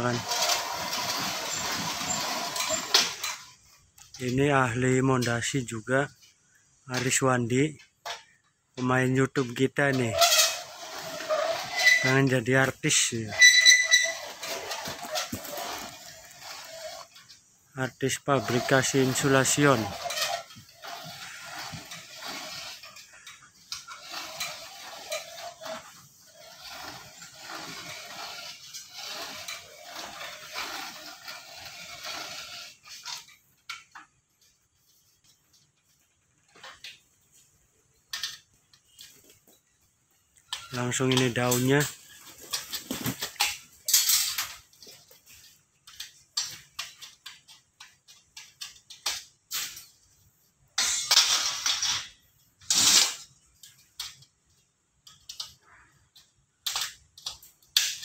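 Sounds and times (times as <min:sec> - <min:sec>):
metal sheet rattling and scraping: 0:00.0 - 0:05.8, 0:09.0 - 0:37.4, 0:40.2 - 0:50.2, 0:50.8 - 0:54.3.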